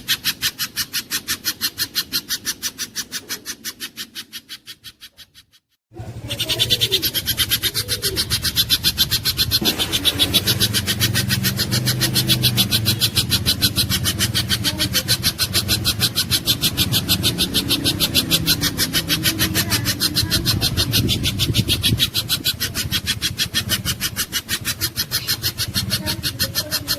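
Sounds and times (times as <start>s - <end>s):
bird calling high sharp notes: 0.0s - 5.5s, 6.1s - 26.9s.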